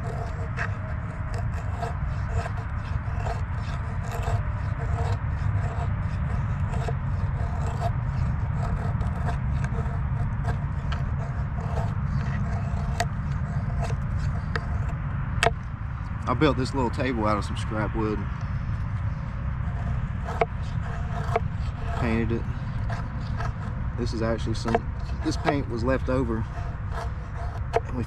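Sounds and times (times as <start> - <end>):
knife scraping wood: 0.0 - 15.6, 16.4 - 28.0
low rumble: 0.0 - 28.0.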